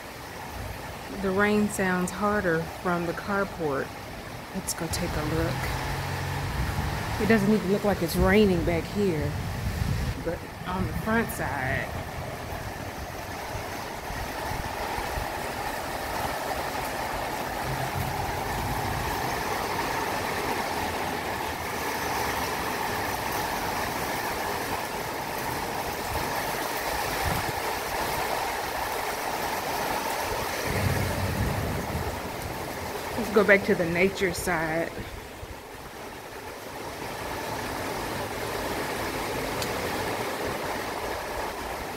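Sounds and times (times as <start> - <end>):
rain on roofs: 0.0 - 41.9.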